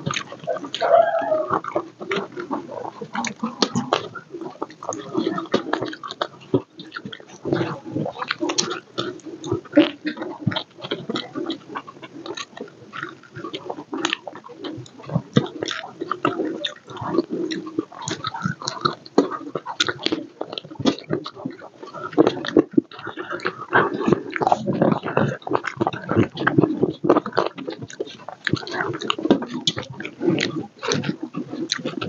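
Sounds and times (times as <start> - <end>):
chewing and lip-smacking: 0.0 - 32.0.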